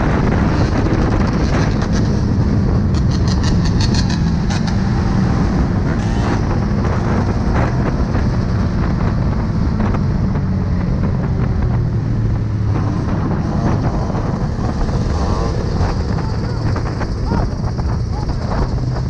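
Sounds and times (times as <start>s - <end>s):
dirt bike engines running: 0.0s - 19.0s
wind noise on microphone: 0.0s - 19.0s.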